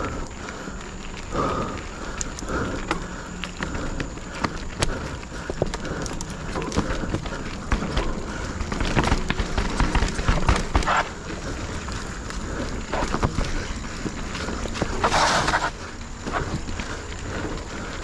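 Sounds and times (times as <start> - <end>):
bike chain and frame rattling: 0.0 - 18.0
tyres rumbling on dirt: 0.0 - 18.0
wind: 0.0 - 18.0.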